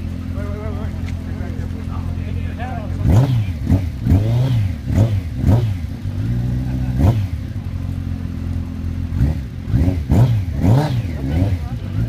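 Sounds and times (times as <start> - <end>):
motorcycle engine idling: 0.0 - 12.0
motorcycle throttle blips: 0.0 - 12.0.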